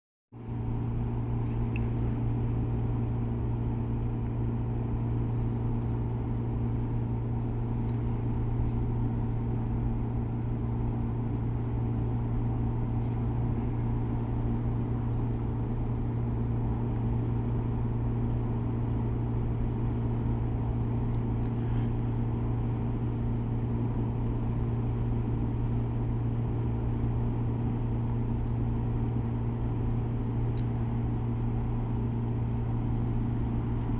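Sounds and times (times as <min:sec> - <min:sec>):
heat pump unit humming: 0:00.4 - 0:33.9.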